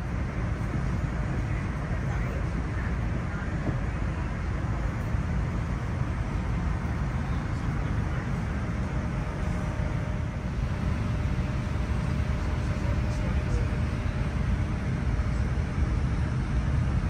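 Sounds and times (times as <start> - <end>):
airliner cabin rumble and hiss: 0.0 - 17.0.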